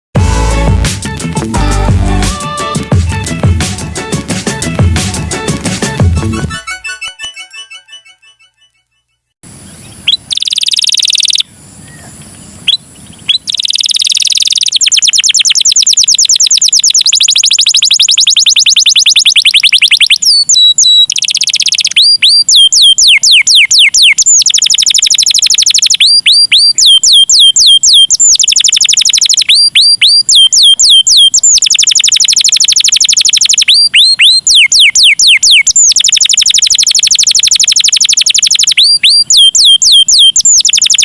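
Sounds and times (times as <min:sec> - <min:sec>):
canary singing: 0:01.2 - 0:41.0.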